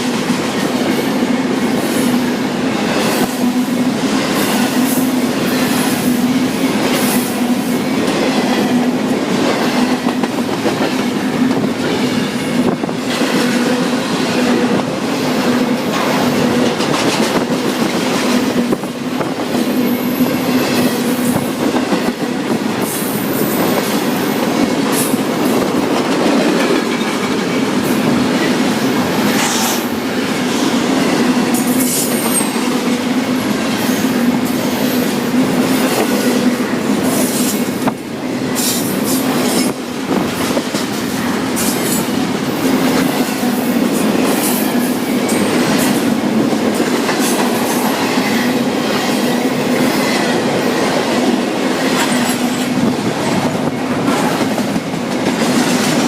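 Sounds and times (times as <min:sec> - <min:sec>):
freight train rumbling past: 0:00.0 - 0:56.0
wheels clacking over rail joints: 0:02.8 - 0:56.0.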